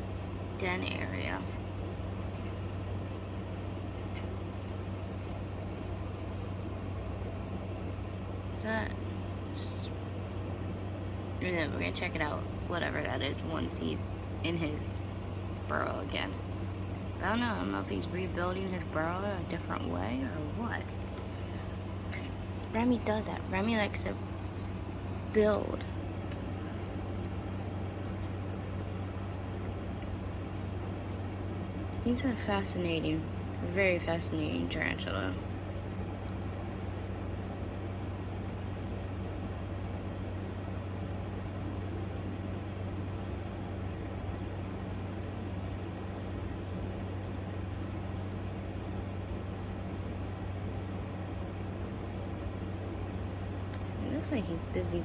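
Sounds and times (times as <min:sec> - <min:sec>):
crickets chirping: 0:00.0 - 0:55.0
low steady hum: 0:00.0 - 0:55.0.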